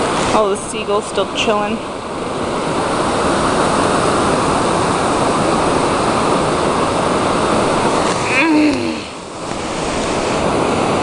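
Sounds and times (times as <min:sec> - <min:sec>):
sea surf washing over shore: 0:00.0 - 0:11.0.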